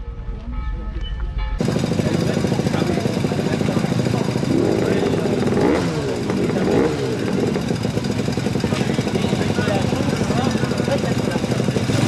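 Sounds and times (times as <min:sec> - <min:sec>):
voices talking: 0:00.7 - 0:12.0
engine running: 0:01.6 - 0:12.0.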